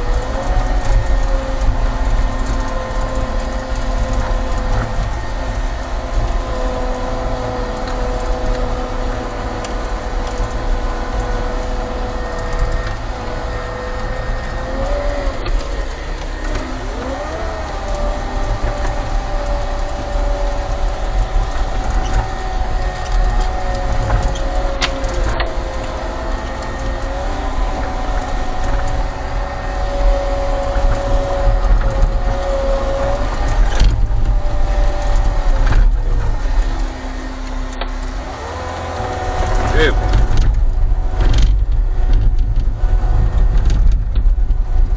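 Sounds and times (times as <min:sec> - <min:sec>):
diesel engine whine and rumble: 0:00.0 - 0:44.9.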